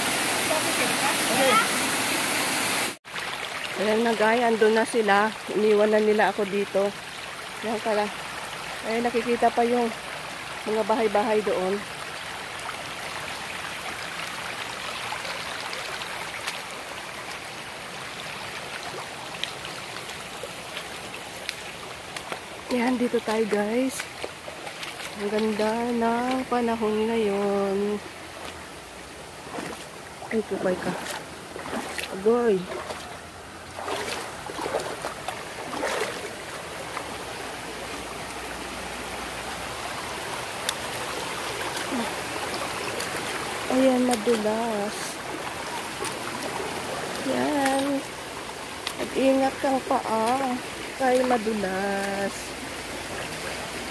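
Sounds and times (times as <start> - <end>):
water flowing over rocks: 0.0 - 53.9.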